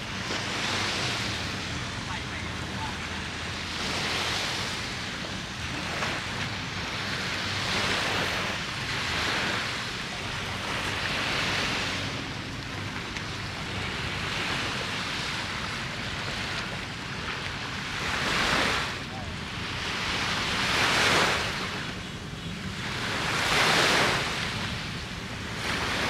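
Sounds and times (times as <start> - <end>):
small waves washing ashore: 0.0 - 26.0
wind rumble on microphone: 0.0 - 26.0.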